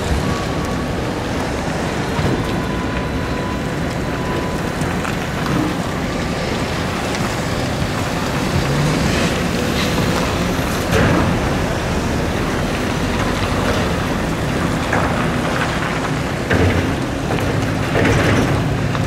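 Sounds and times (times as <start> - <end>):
excavator engine rumbling: 0.0 - 19.0.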